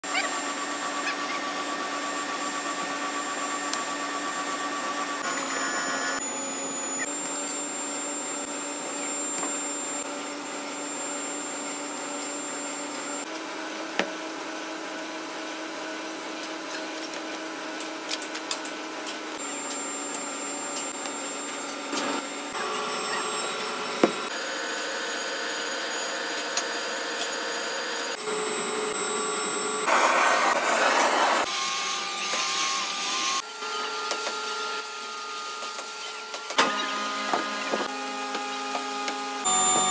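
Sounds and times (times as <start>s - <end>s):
whirring machine drone: 0.1s - 39.9s.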